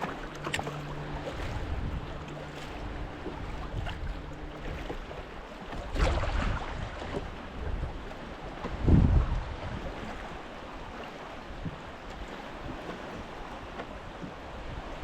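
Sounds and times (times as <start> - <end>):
water around boat: 0.0 - 15.0
wind: 0.0 - 15.0.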